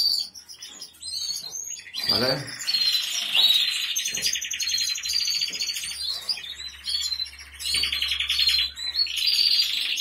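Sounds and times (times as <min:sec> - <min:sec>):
canaries singing rolling trills: 0:00.0 - 0:10.0.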